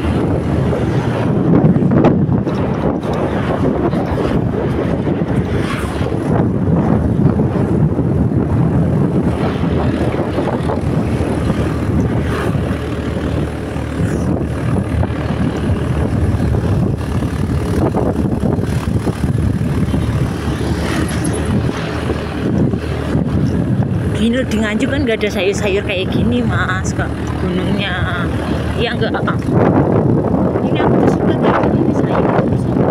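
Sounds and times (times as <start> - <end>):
motorbike engine: 0.0 - 32.7
wind rushing over microphone: 0.0 - 32.9.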